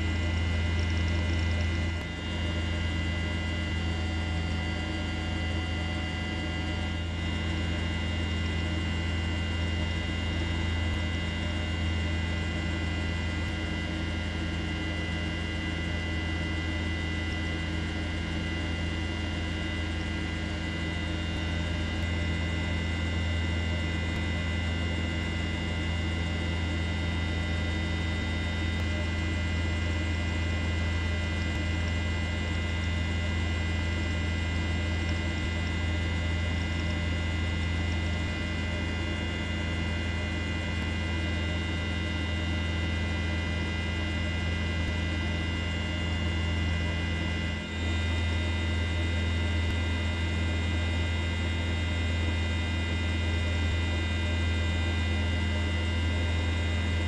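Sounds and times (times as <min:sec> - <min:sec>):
helicopter drone from on board: 0:00.0 - 0:57.0.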